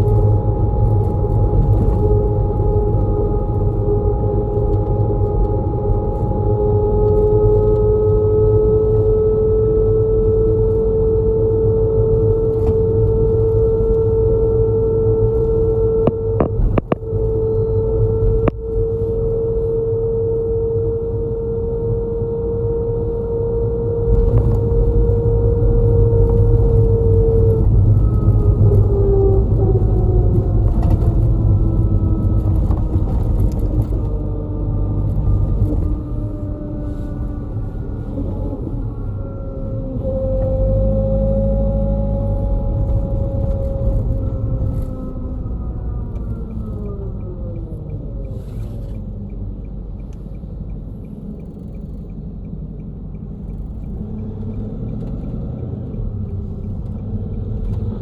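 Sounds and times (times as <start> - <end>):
steady whine: 0.0 - 55.2
bus engine drone: 0.0 - 58.0
low road rumble: 0.0 - 58.0.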